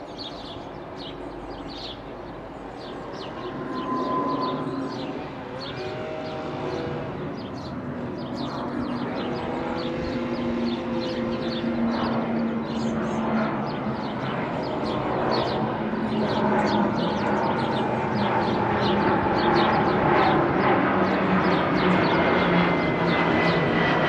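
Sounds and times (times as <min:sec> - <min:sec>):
small birds chirping: 0:00.0 - 0:24.0
steady engine drone: 0:00.0 - 0:24.0.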